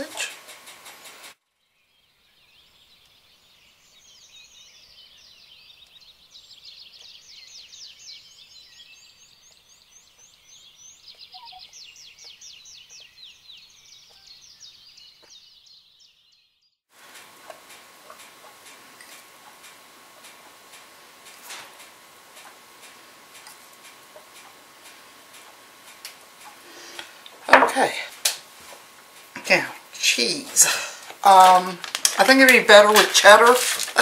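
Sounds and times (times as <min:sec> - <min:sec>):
songbirds chirping and trilling: 0:00.0 - 0:16.8, 0:17.6 - 0:34.0.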